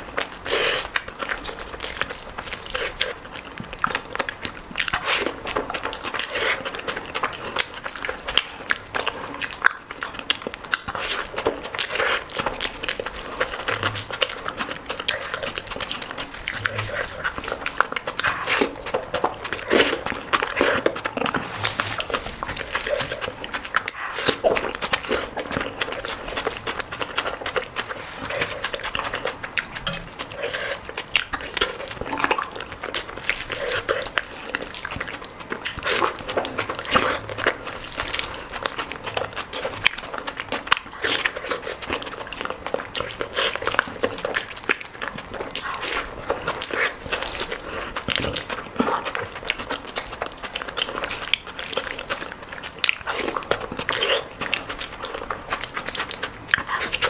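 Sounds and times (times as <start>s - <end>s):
person chewing wetly: 0.0s - 57.0s.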